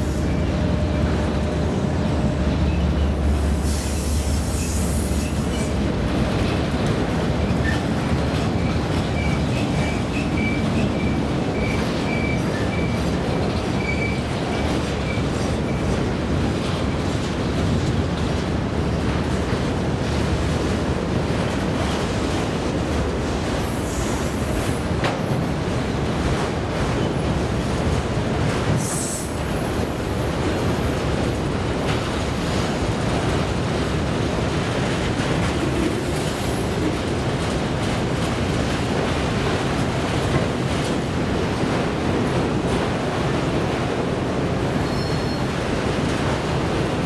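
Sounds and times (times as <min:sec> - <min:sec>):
train wheels on track: 0:00.0 - 0:47.0.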